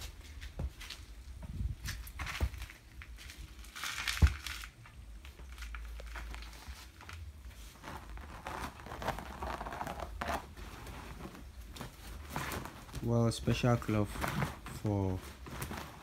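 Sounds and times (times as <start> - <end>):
cloth rustling and crinkling: 0.0 - 16.0.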